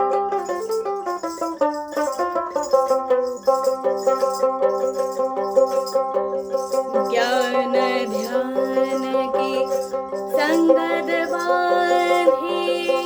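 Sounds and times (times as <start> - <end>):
plucked folk lute melody: 0.0 - 13.0.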